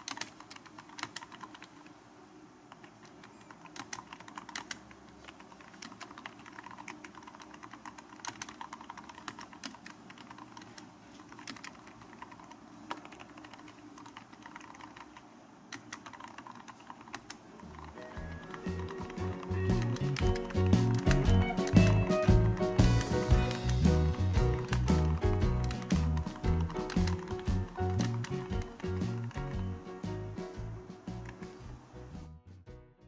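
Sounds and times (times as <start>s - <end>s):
keyboard key presses: 0.0s - 1.9s, 2.7s - 29.5s.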